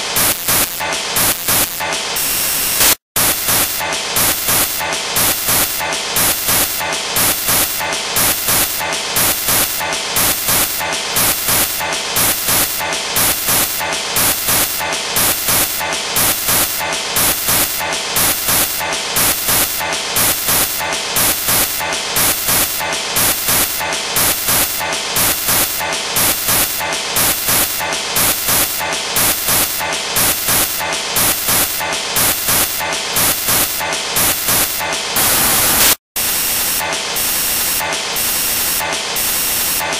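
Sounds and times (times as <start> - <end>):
pulsing digital static: 0.0 - 36.8.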